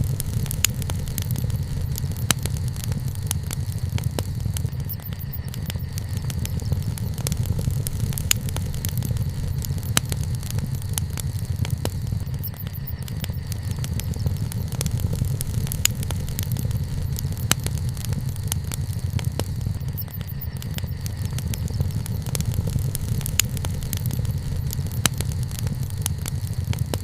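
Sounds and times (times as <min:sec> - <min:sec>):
low fire rumble: 0:00.0 - 0:27.0
wood fire crackling and popping: 0:00.0 - 0:27.0.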